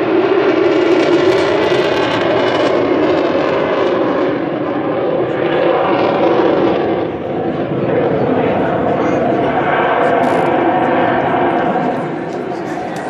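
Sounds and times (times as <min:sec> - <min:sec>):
loud jet engine noise: 0:00.0 - 0:13.0.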